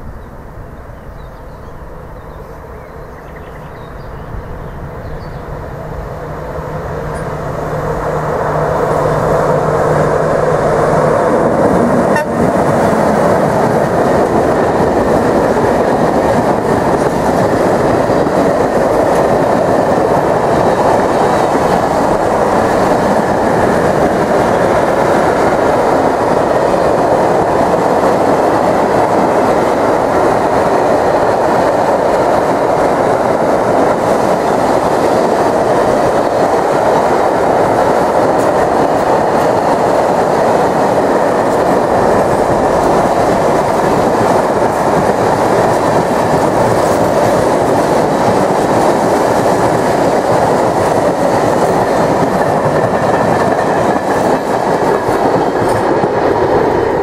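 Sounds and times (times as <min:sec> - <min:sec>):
freight train rolling on rails: 0:00.0 - 0:57.0.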